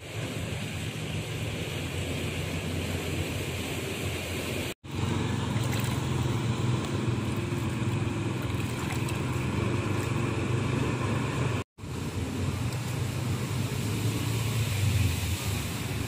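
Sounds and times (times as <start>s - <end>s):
street noise with engine rumble: 0.0s - 16.0s.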